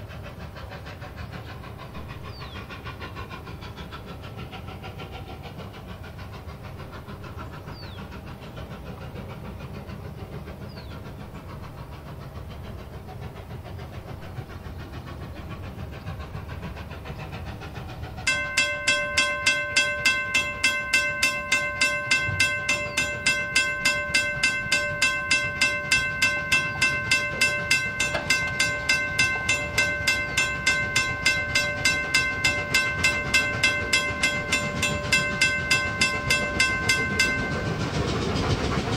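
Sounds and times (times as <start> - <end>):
steam locomotive exhaust chuffs: 0.0 - 38.9.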